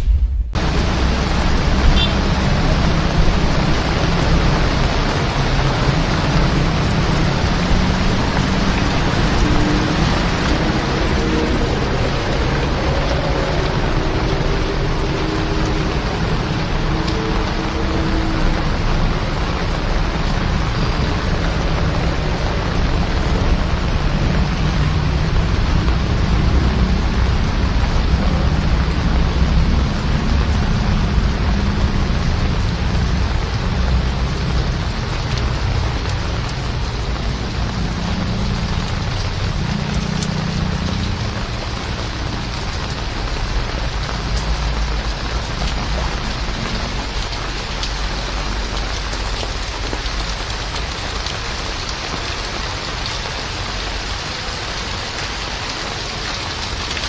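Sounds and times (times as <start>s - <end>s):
heavy rain: 0.0s - 57.0s
low engine rumble: 0.0s - 57.0s
road noise: 0.0s - 57.0s.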